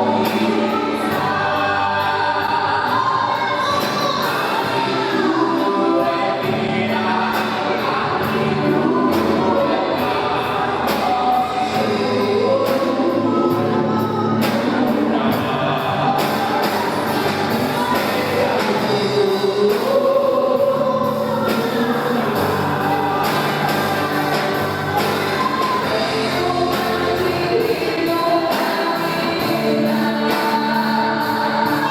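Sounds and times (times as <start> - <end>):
band with steady beat: 0.0 - 31.9
group singing gospel song: 0.0 - 31.9.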